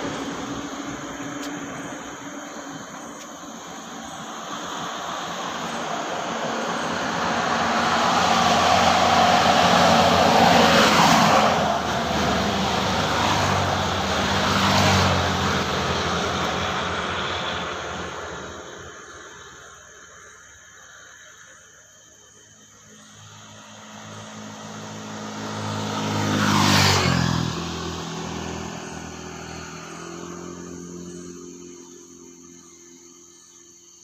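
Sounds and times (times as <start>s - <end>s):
passing engine: 0.0s - 20.2s, 22.4s - 33.8s.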